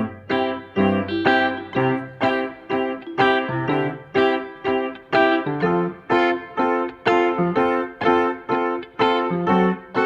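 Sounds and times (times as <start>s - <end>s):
plucked guitar-like chords: 0.0s - 10.0s.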